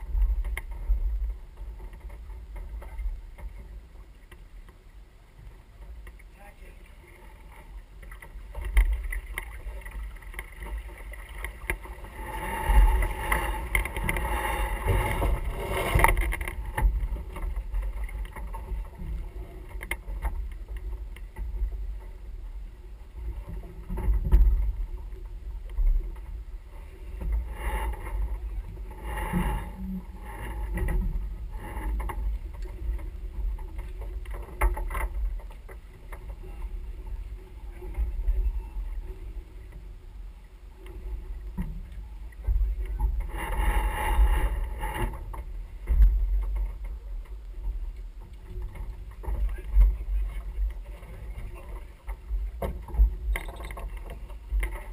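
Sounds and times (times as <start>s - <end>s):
water rushing along hull: 0.0s - 54.9s.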